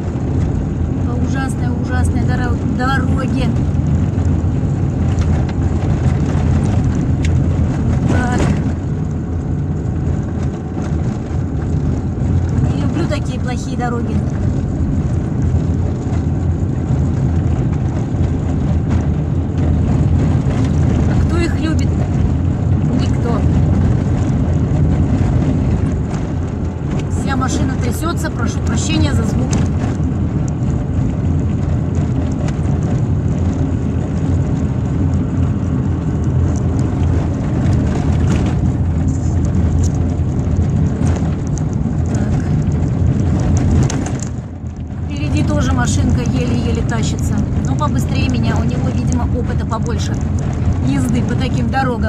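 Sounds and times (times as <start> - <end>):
car rumbling on rough road: 0.0 - 52.0.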